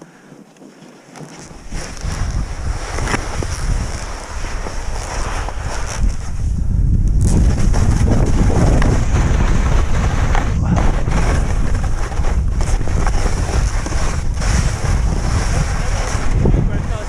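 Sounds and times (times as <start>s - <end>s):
skis sliding over snow: 0.0s - 6.5s, 7.2s - 17.0s
wind buffeting microphone: 1.5s - 17.0s.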